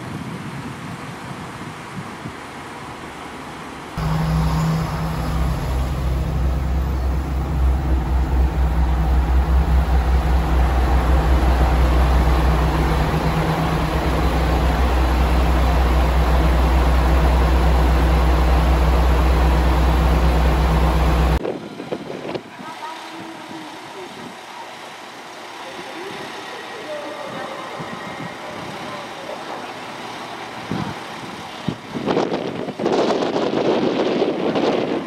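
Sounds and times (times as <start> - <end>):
outdoor background noise: 0.0 - 35.0
diesel railcar engine idling: 3.0 - 32.8.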